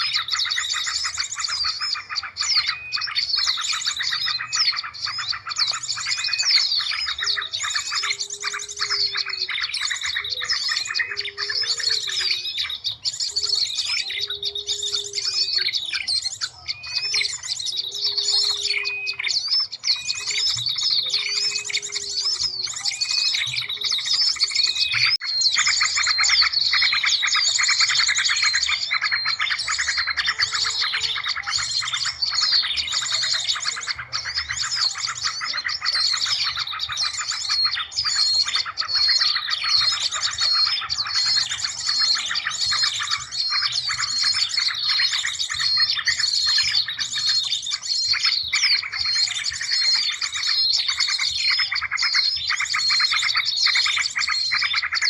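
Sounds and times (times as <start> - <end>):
lower repeated bird call: 0.0 - 55.0
small birds chirping and trilling: 0.0 - 55.0.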